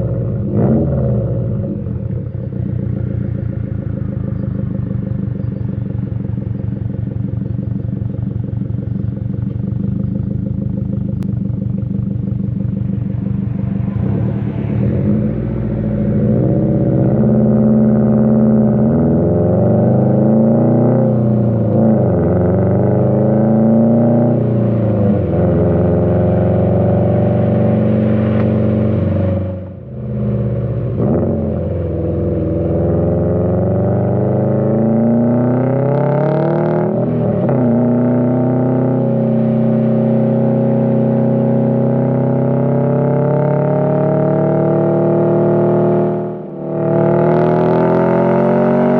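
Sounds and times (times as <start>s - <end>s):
car engine accelerating through gears: 0.0s - 7.6s, 11.1s - 48.9s.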